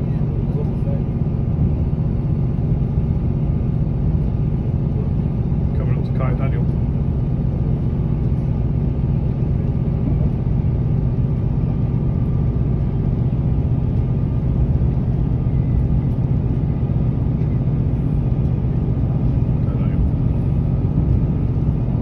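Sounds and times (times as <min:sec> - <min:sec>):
moving train rumble: 0:00.0 - 0:22.0.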